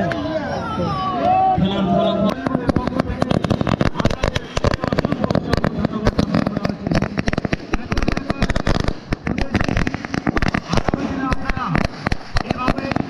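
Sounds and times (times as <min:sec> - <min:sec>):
fireworks cracking and banging: 0:01.9 - 0:13.0.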